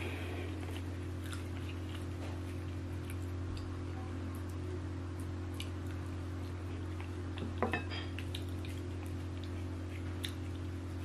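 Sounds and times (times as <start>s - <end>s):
chewing and fingers working food: 0.0s - 11.0s
steady low hum: 0.0s - 11.0s.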